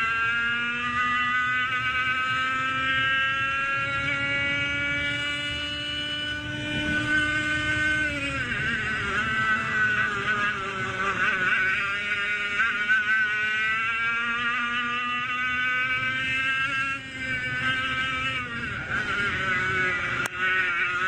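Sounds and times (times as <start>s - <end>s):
two-stroke kart engine revving: 0.0s - 21.0s.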